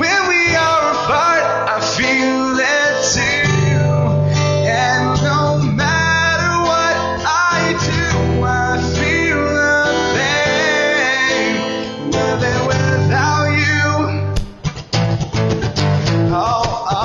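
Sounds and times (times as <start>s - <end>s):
man singing: 0.0s - 14.4s, 16.1s - 17.0s
acoustic guitars: 0.0s - 17.0s.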